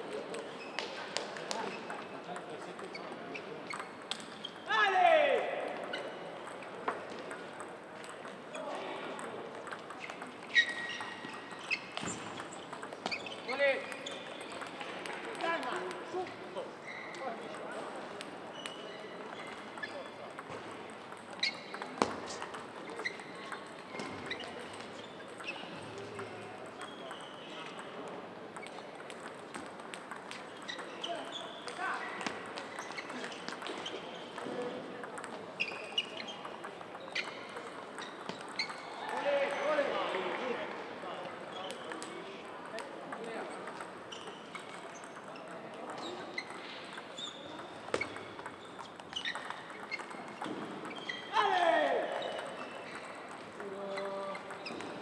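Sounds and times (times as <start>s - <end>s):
sports hall noise: 0.0s - 55.0s
ping pong ball clicks: 0.2s - 4.6s, 5.7s - 16.1s, 17.1s - 31.0s, 31.6s - 39.2s, 41.6s - 51.2s, 52.3s - 55.0s.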